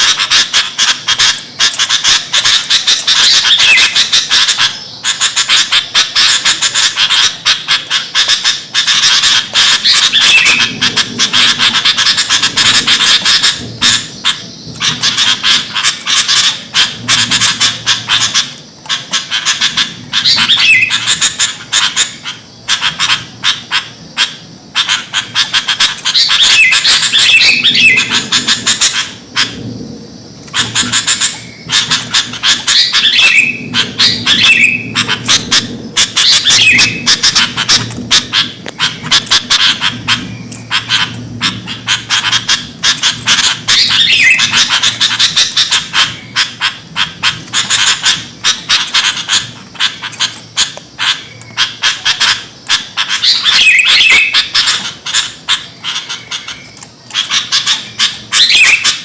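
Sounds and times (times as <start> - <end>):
bird harsh chattering: 0.0 - 29.7, 30.4 - 59.0.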